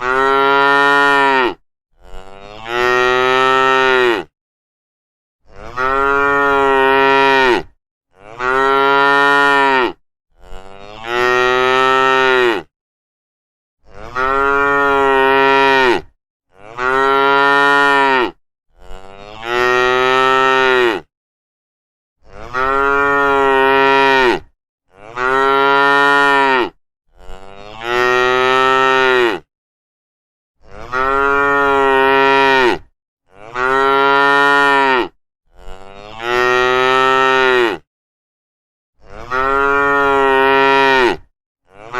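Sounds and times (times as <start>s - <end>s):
cows mooing: 0.0s - 4.3s, 5.5s - 12.7s, 13.9s - 21.1s, 22.3s - 29.5s, 30.7s - 37.8s, 39.1s - 41.9s.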